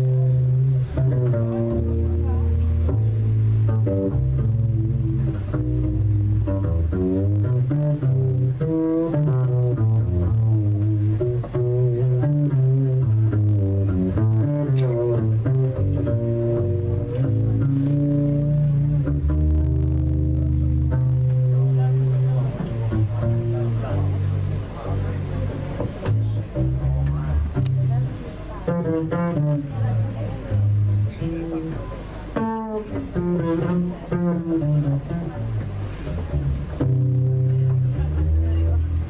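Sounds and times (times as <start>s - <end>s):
double bass plucked: 0.0s - 39.0s.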